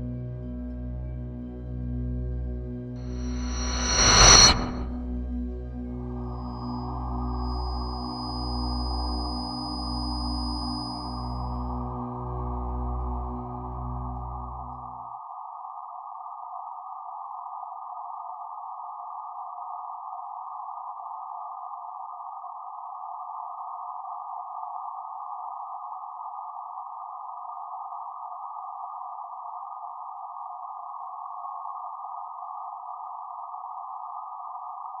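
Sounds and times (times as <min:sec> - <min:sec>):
electronic drone of filtered hiss: 0:02.7 - 0:35.0.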